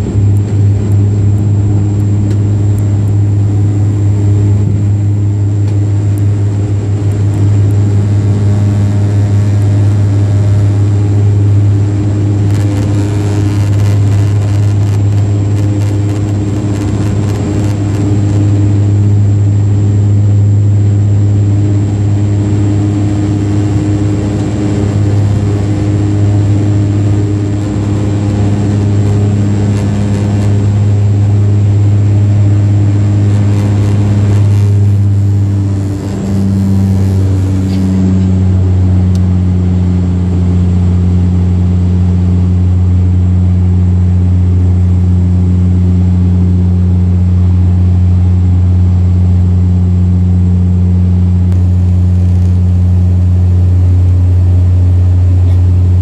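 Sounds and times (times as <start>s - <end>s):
turboprop engine drone: 0.0s - 56.0s.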